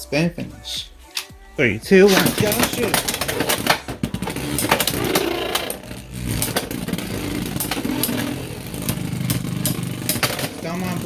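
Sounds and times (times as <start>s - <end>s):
spinning tops whirring: 2.0s - 11.0s
spinning tops clashing: 2.1s - 11.0s.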